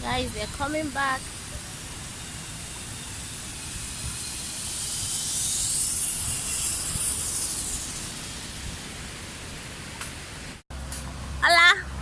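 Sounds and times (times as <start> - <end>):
zip line trolley whizzing on cable: 0.0 - 11.1.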